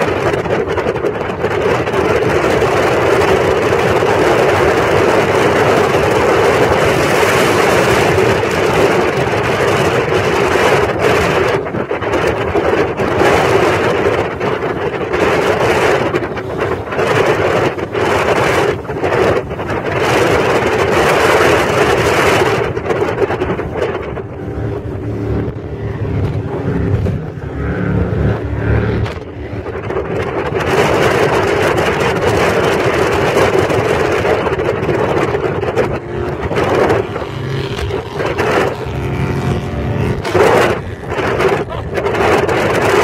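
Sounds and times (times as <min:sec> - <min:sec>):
boat engines droning: 0:00.0 - 0:43.0
wind and spraying wake rushing: 0:00.0 - 0:43.0.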